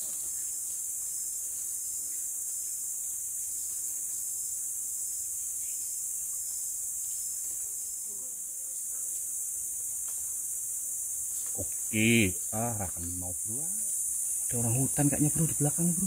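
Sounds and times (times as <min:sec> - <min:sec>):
forest insects chorus: 0:00.0 - 0:16.0.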